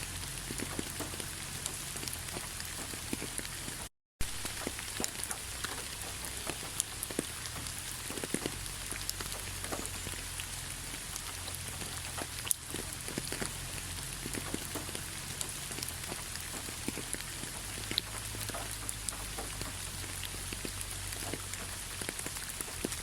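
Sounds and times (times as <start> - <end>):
raindrops striking close by: 0.0 - 23.0
steady rainfall: 0.0 - 23.0.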